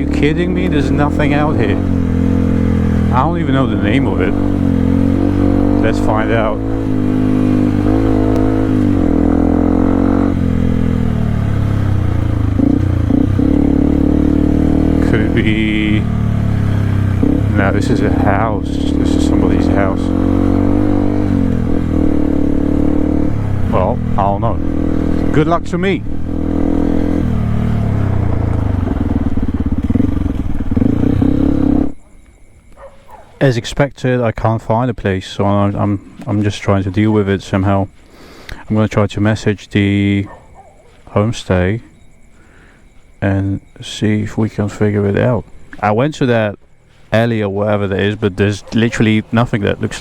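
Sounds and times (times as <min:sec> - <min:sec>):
motorcycle engine running: 0:00.0 - 0:33.0, 0:39.8 - 0:50.0.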